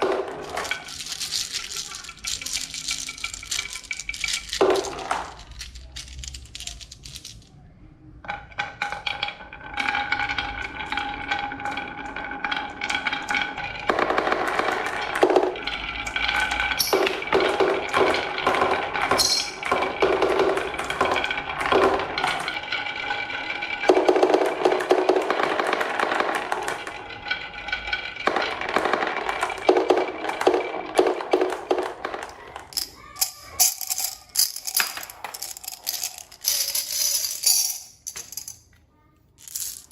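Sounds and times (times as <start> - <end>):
marbles clattering down wooden run: 0.0 - 7.5, 8.3 - 38.7, 39.4 - 39.9.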